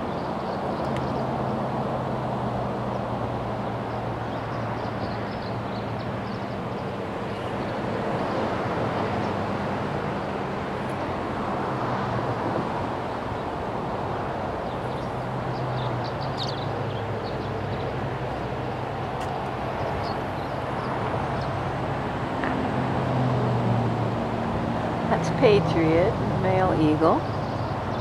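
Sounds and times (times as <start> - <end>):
distant traffic rumble: 0.0 - 28.0.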